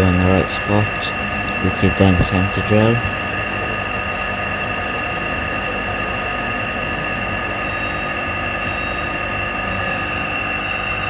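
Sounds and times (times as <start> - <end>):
milling machine whining: 0.0 - 11.0.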